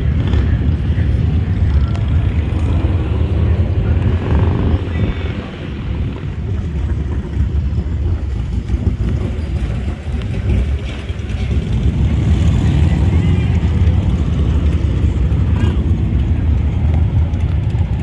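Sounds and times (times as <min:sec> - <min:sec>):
faint voices: 0:00.0 - 0:18.0
motorcycle engines rumbling: 0:00.0 - 0:18.0.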